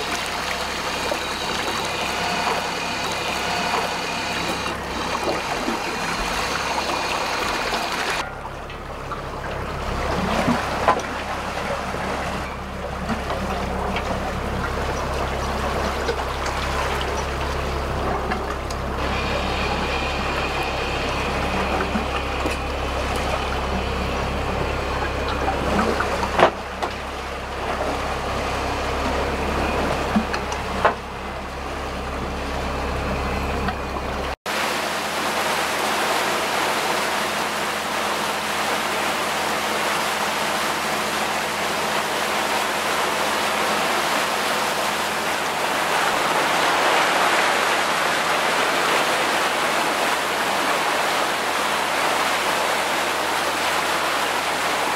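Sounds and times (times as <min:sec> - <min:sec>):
boat diesel engine droning: 0:00.0 - 0:54.9
boat wake rushing: 0:00.0 - 0:54.9.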